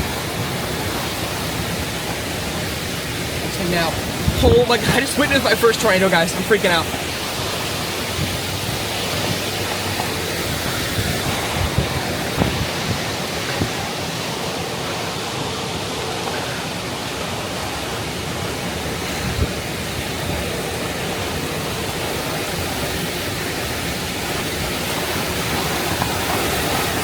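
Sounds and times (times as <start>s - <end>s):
low wind gust thumps: 0.0s - 27.0s
strong storm winds rushing: 0.0s - 27.0s.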